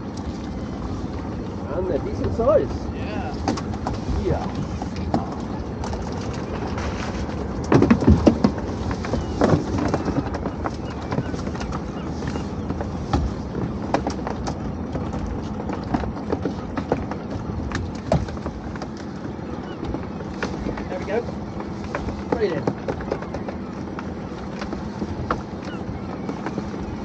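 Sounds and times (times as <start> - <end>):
fishing gear knocking and clattering: 1.8 - 11.9, 12.6 - 27.0.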